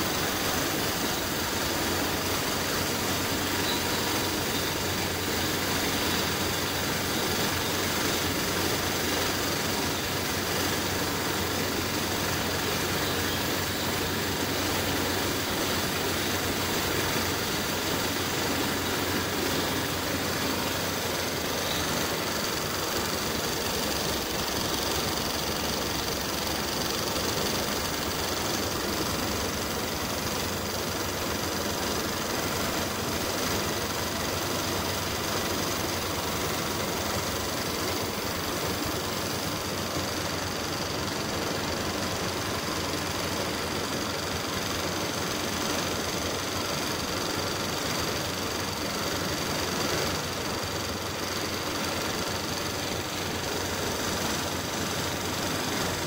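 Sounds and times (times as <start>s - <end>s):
air compressor humming: 0.0s - 56.0s
spray gun hissing: 0.0s - 56.0s.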